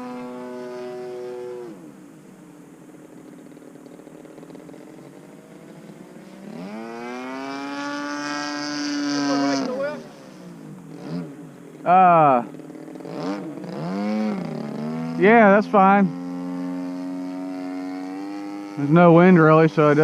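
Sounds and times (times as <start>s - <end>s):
model plane engine: 0.0s - 20.0s.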